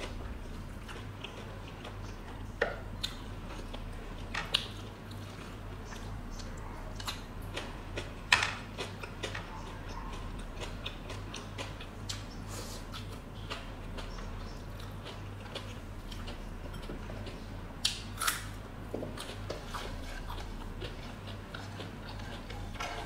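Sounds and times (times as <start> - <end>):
crunching fried food: 0.0 - 23.0
low steady hum: 0.0 - 23.0.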